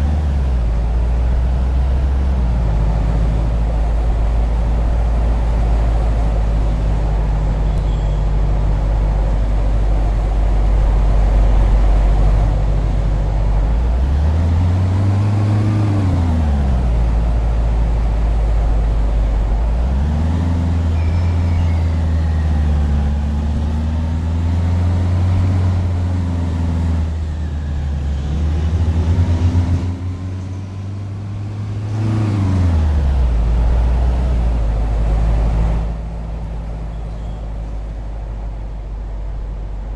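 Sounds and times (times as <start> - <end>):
steady low rumble: 0.0 - 39.9
tram motors whining: 0.0 - 39.9.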